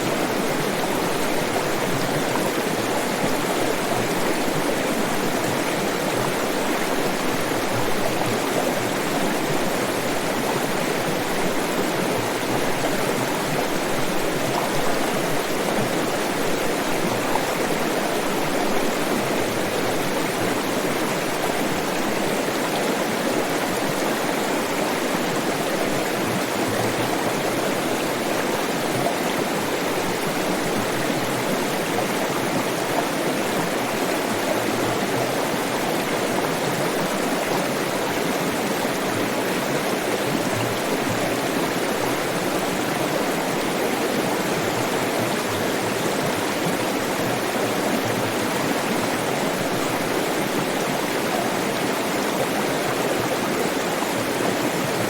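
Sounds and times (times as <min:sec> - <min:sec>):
water flowing steadily: 0:00.0 - 0:55.0.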